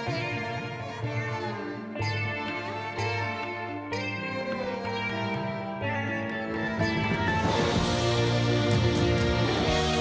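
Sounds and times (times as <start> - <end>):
string music with long notes: 0.0 - 10.0.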